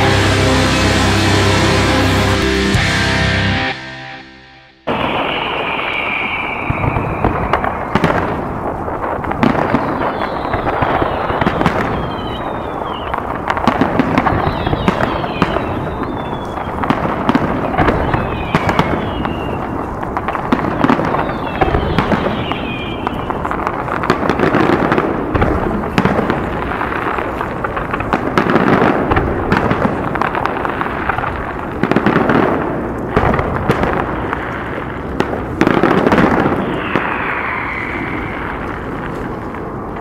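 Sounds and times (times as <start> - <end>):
fireworks bangs and crackling: 0.0 - 2.8, 4.8 - 40.0
fireworks whistles: 4.9 - 32.5, 33.1 - 40.0.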